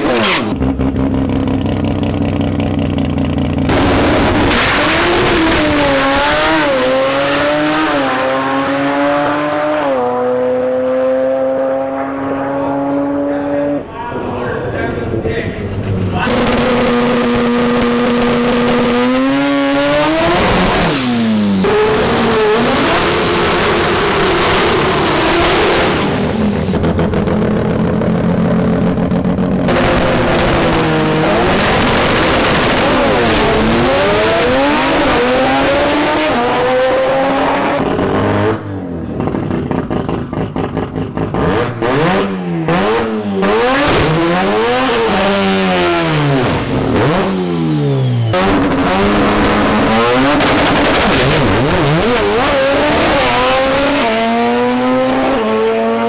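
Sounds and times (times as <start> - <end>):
engine bouncing off rev limiter: 0.0 - 56.0
rotary engines revving hard: 0.0 - 56.0.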